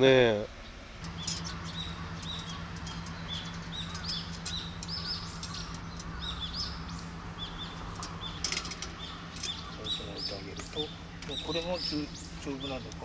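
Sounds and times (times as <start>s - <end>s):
small birds chirping: 0.0s - 13.0s
steady low hum: 0.4s - 13.0s.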